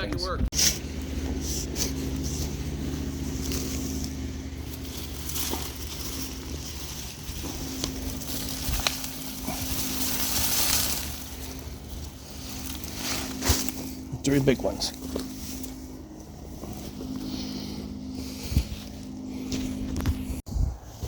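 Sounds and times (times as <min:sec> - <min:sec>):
low engine-like hum: 0:00.0 - 0:20.8
rustling soil: 0:00.5 - 0:20.8.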